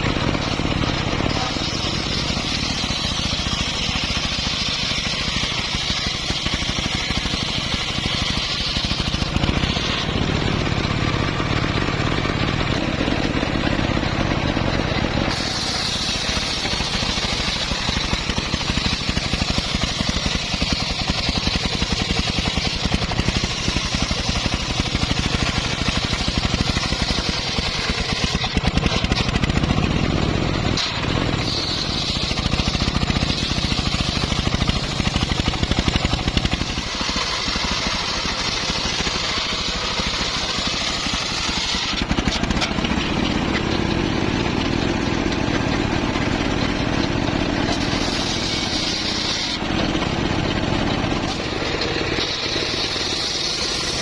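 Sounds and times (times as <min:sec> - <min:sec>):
bandsaw engine pulsing: 0:00.0 - 0:54.0
saw blade cutting wood: 0:00.0 - 0:54.0.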